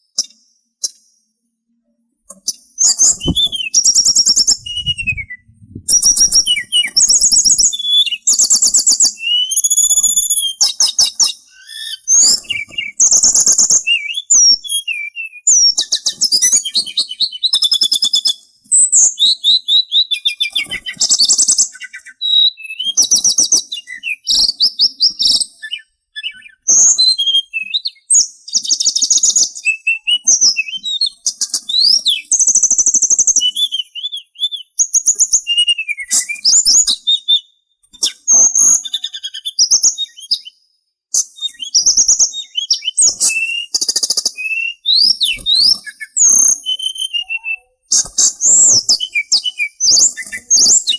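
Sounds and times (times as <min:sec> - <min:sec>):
songbird singing: 0:02.3 - 0:50.9.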